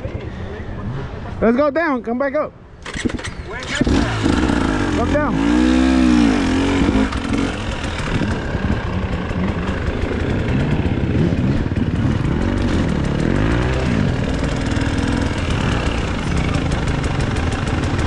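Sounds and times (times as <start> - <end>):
dirt bike engine revving: 2.8 - 18.0.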